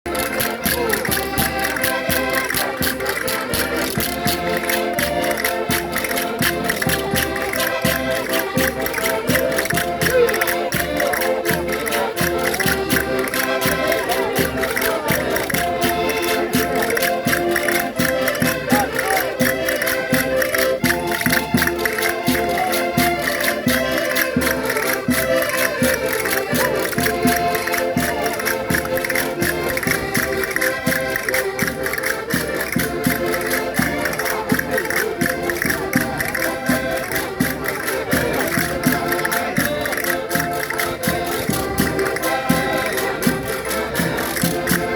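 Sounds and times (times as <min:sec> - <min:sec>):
concertinas playing folk dance music: 0:00.1 - 0:44.9.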